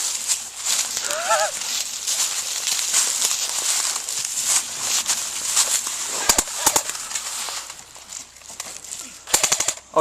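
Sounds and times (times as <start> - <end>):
footsteps crunching through snow: 0.0 - 9.2.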